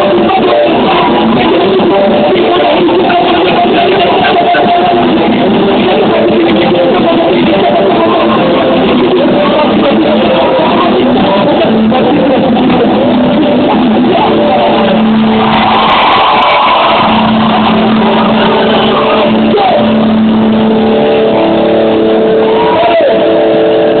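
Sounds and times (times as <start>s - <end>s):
distorted live rock band: 0.0s - 24.0s.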